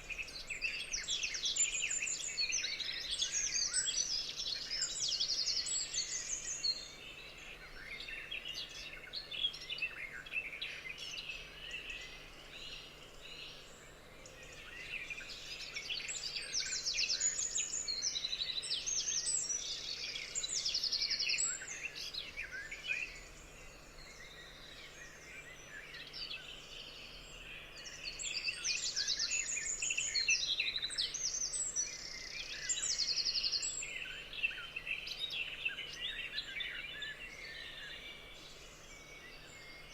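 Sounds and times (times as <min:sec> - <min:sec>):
wild birds chirping and trilling: 0:00.0 - 0:39.9.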